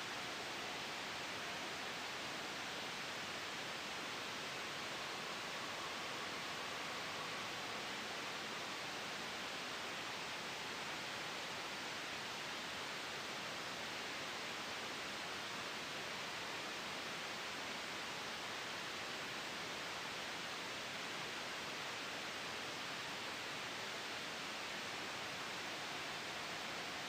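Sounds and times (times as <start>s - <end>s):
steady white noise hiss: 0.0s - 27.0s.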